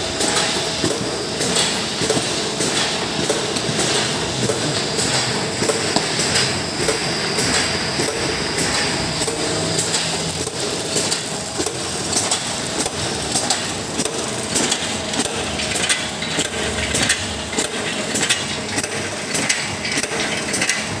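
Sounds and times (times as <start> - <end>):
packing machine running: 0.0 - 21.0
sharp clicks and clacks: 0.1 - 21.0.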